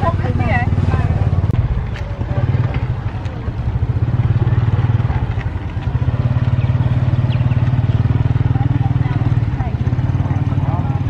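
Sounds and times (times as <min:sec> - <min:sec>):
faint market chatter: 0:00.0 - 0:11.0
small engine droning: 0:00.0 - 0:11.0.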